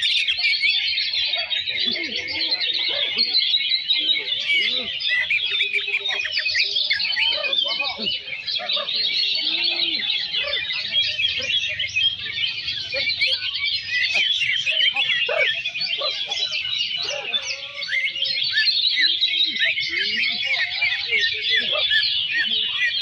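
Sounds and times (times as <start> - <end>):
caged birds singing in chorus: 0.0 - 23.0.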